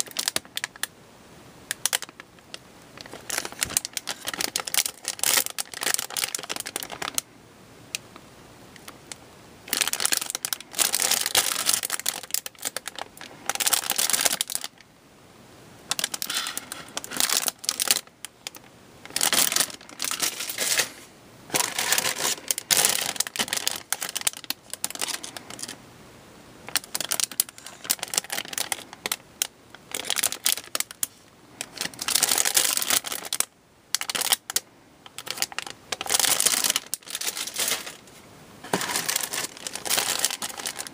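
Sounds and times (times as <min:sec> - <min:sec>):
plastic bags crinkling: 0:00.0 - 0:00.9, 0:01.8 - 0:07.2, 0:09.7 - 0:14.8, 0:15.9 - 0:25.8, 0:26.6 - 0:40.9.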